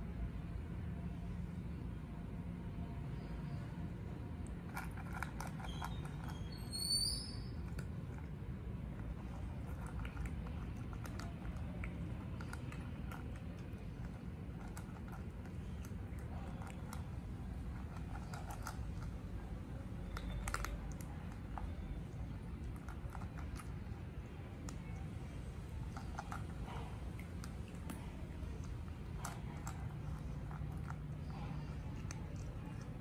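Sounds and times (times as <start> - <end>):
steady low hum: 0.0 - 33.0
cats crunching dry kibble: 4.4 - 6.3, 7.6 - 33.0.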